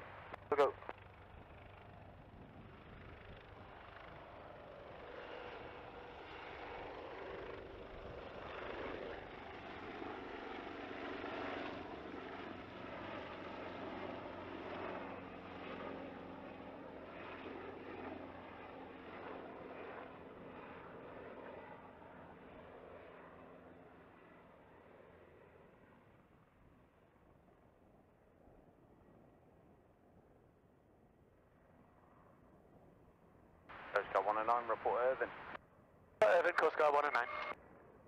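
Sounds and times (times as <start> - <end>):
helicopter turbine and rotor: 0.0 - 38.0.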